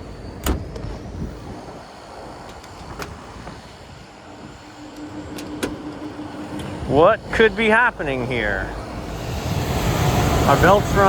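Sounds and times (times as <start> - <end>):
air conditioner fans whooshing: 0.0 - 11.0
faint steady hum: 0.0 - 11.0.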